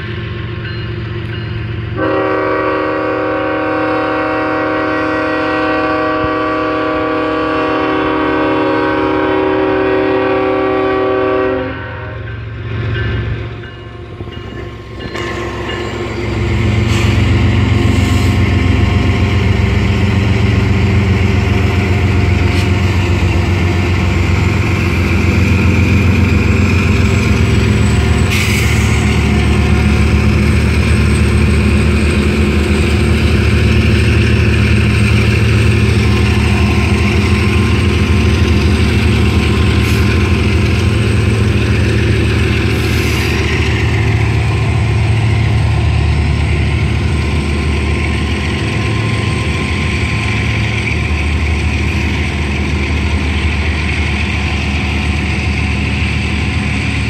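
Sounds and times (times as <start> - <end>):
diesel locomotives passing: 0.0 - 57.0.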